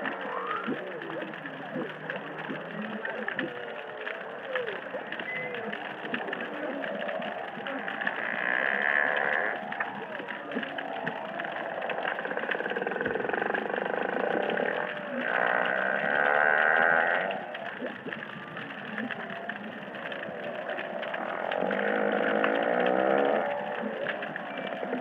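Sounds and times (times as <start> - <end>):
coral reef crackle: 0.0 - 25.0.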